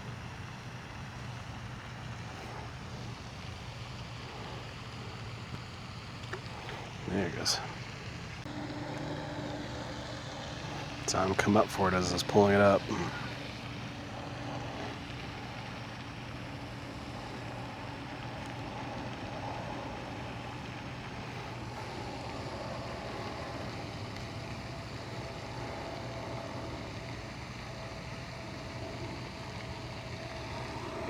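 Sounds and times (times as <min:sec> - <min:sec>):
distant engine low hum: 0:00.0 - 0:31.0.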